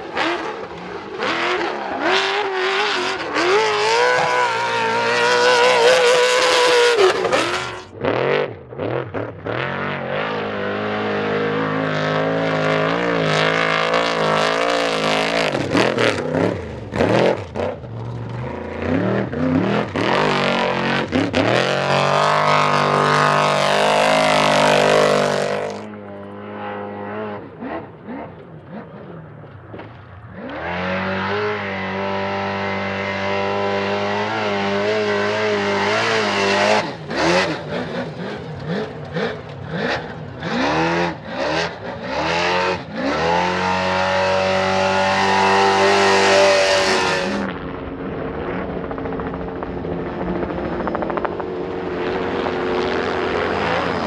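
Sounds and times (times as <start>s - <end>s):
off-road race engines revving: 0.0s - 54.0s.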